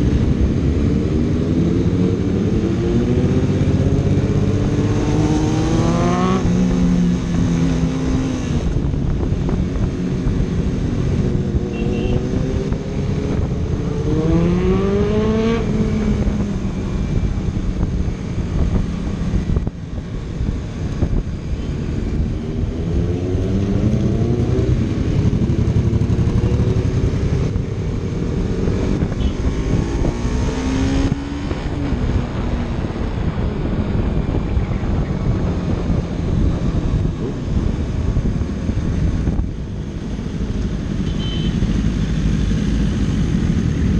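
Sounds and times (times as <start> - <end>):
motorcycle engines accelerating: 0.0 - 43.9.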